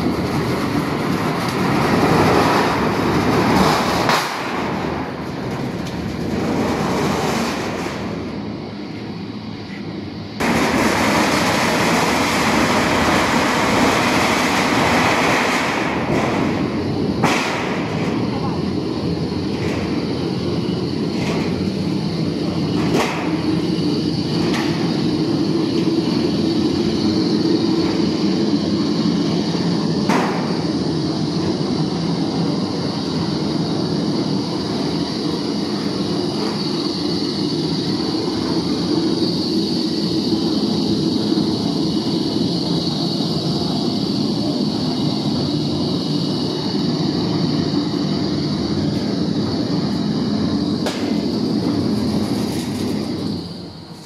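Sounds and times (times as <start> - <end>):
roll forming machine running: 0.0 - 54.0.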